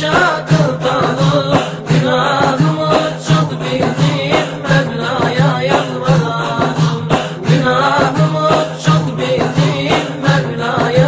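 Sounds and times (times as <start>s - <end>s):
light percussion: 0.0s - 11.0s
voices singing a hymn: 0.0s - 11.0s
low repeating chant: 0.4s - 11.0s.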